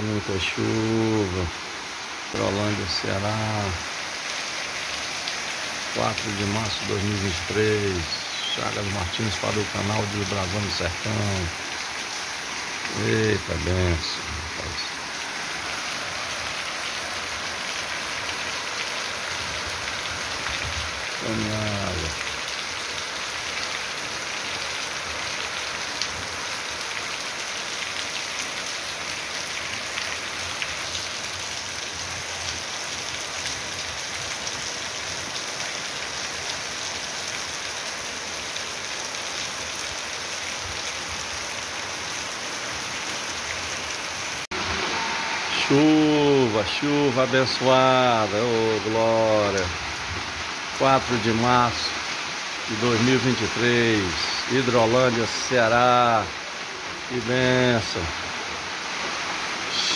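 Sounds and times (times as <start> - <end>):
heavy rain on leaves: 0.0 - 59.9.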